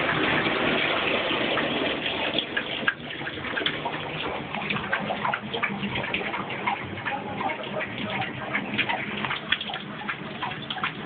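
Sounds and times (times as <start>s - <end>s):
dog lapping water: 0.0s - 11.0s
tap running into bathtub: 0.0s - 11.0s.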